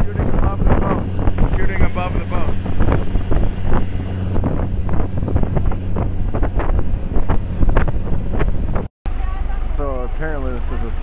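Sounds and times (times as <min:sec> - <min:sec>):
rushing water: 0:00.0 - 0:08.9, 0:09.5 - 0:11.0
wind buffeting microphone: 0:00.0 - 0:09.5
speedboat engine drone: 0:00.0 - 0:11.0.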